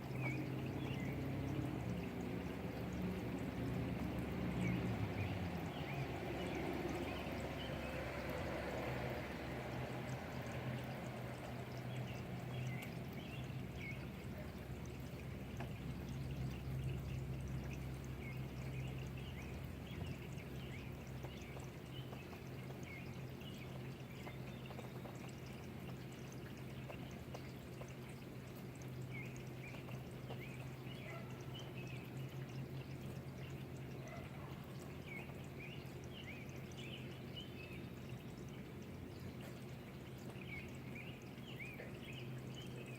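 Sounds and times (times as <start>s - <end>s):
rainwater pouring and dripping: 0.0s - 42.9s
small drip ticks: 0.0s - 42.9s.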